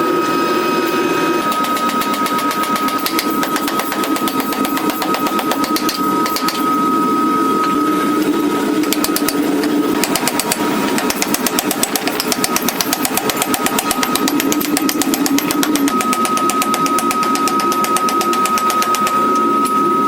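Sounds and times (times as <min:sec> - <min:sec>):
high machine tone: 0:00.0 - 0:20.0
power hammer striking: 0:01.4 - 0:06.8, 0:08.8 - 0:19.8.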